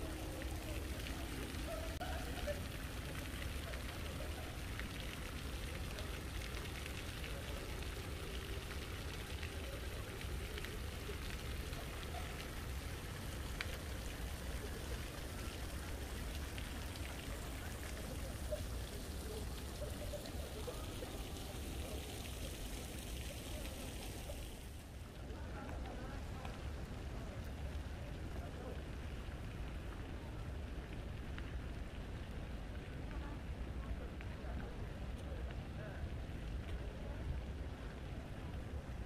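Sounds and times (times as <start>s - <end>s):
faint distant voices: 0.0s - 39.0s.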